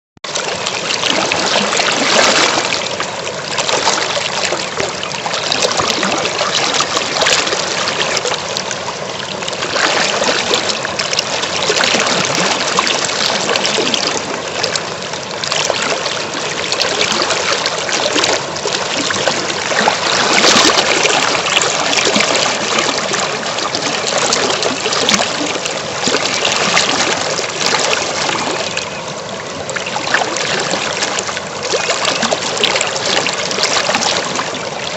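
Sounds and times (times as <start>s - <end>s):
river water flowing: 0.3s - 34.9s.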